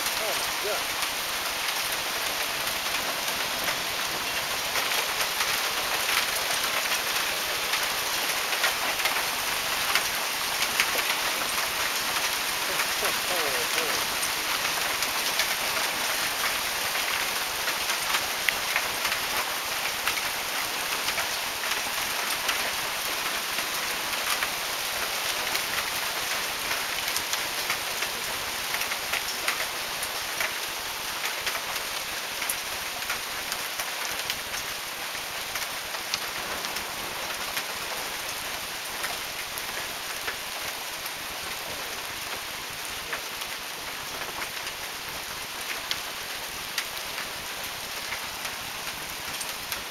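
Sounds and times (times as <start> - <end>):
heavy hail falling: 0.0 - 49.9.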